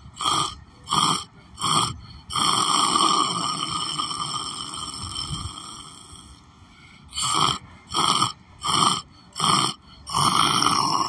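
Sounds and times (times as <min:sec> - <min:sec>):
man snoring: 0:00.0 - 0:06.4, 0:07.1 - 0:11.0.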